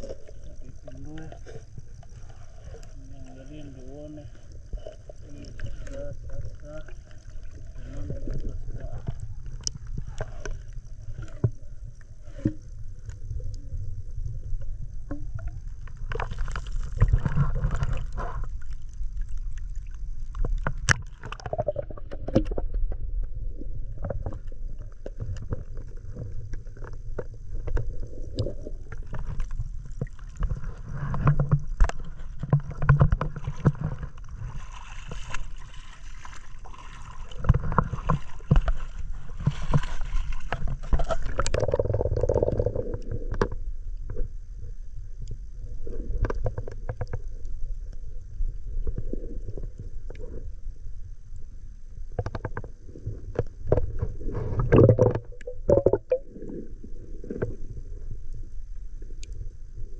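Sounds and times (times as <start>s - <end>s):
underwater rumble and sloshing: 0.0s - 59.9s.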